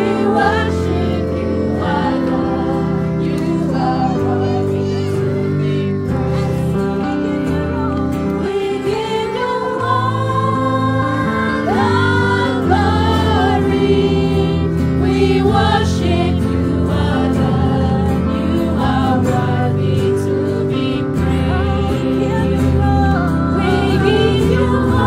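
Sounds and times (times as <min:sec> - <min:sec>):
gospel singing voices: 0:00.0 - 0:25.0
sustained bass line: 0:00.0 - 0:25.0.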